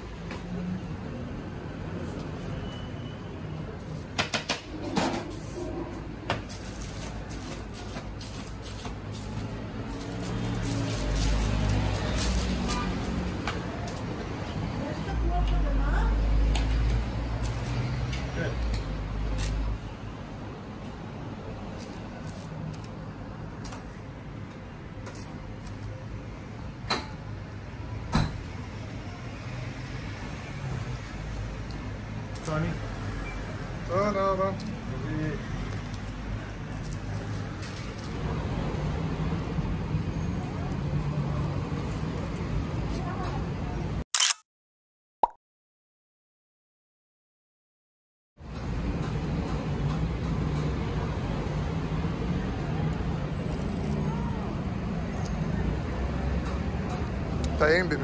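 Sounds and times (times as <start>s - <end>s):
shop hum: 0.0s - 44.4s, 48.4s - 58.0s.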